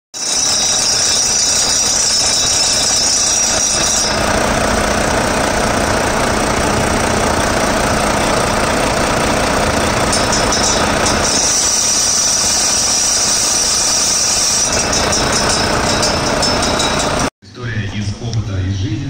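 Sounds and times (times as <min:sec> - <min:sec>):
high-pitched belt tensioner noise: 0:00.2 - 0:17.3
diesel engine running: 0:00.4 - 0:17.9.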